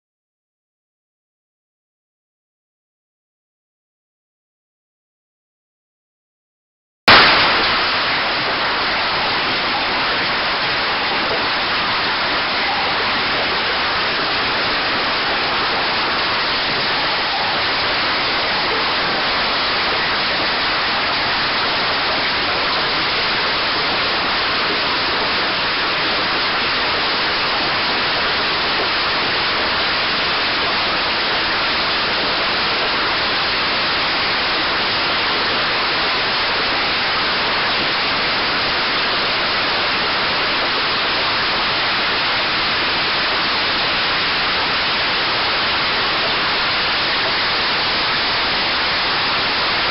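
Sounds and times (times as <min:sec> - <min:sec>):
hail and rain falling: 0:07.1 - 0:49.9.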